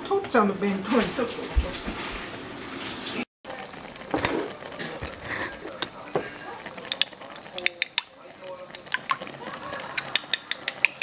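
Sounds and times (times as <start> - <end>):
food sizzling and bubbling: 0.2 - 11.0.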